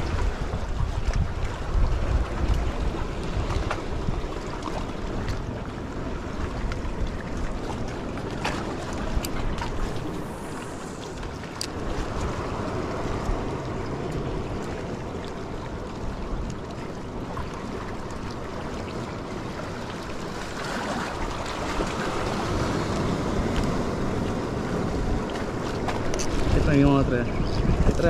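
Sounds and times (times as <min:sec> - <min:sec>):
waves washing against rocks: 0:00.0 - 0:28.0
wind buffeting microphone: 0:00.0 - 0:28.0.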